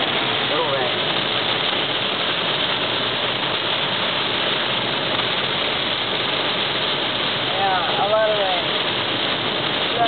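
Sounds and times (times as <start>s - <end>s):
heavy rain on a car: 0.0s - 10.0s
tyres on wet road: 0.0s - 10.0s.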